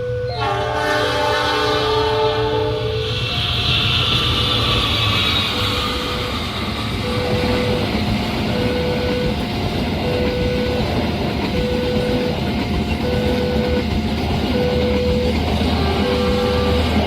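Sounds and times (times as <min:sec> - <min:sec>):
train rumbling past: 0:00.0 - 0:17.0
two-tone crossing alarm: 0:00.0 - 0:17.0.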